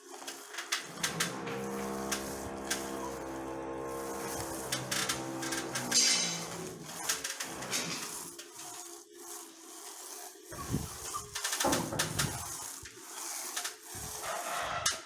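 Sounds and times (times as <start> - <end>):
plastering tool scraping wall: 0.2 - 15.0.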